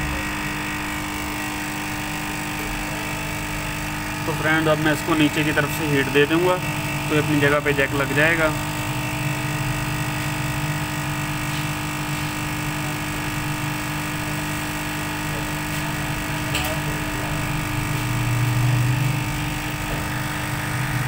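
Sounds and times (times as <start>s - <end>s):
hot air blower humming: 0.0s - 21.0s.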